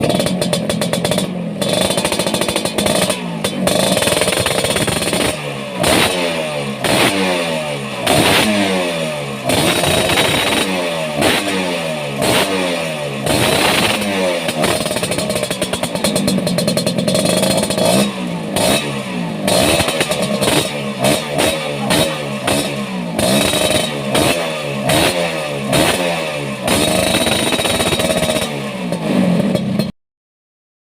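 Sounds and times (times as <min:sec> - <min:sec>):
scooter engine revving: 0:00.0 - 0:29.9.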